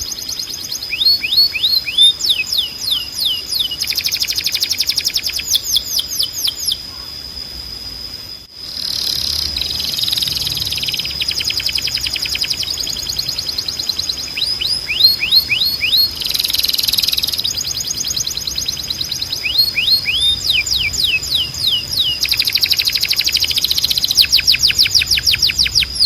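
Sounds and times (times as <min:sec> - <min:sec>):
canary singing trills: 0:00.0 - 0:07.2, 0:08.6 - 0:26.0.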